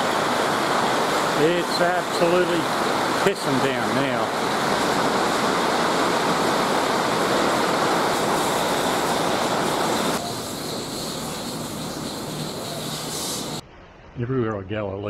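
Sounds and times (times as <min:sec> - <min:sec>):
heavy rain on concrete: 0:00.0 - 0:13.6.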